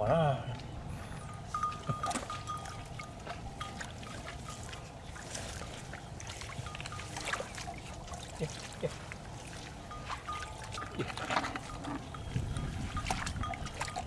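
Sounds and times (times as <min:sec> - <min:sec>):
muddy water sloshing: 0:00.3 - 0:14.0
small splashes: 0:01.5 - 0:14.0.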